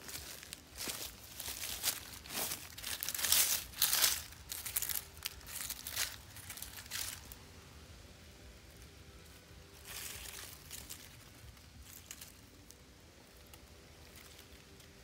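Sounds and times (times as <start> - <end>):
dry leaves crinkling and rustling: 0.0 - 7.6, 8.5 - 15.0.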